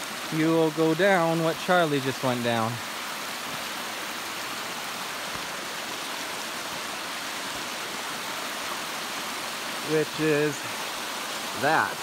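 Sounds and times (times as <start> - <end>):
mountain stream rushing over rocks: 0.0 - 12.0.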